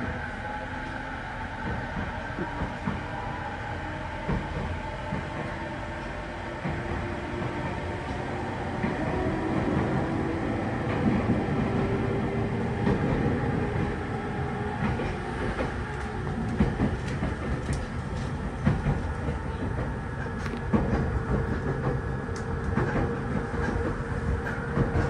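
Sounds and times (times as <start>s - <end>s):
train rumble inside car: 0.0s - 25.0s.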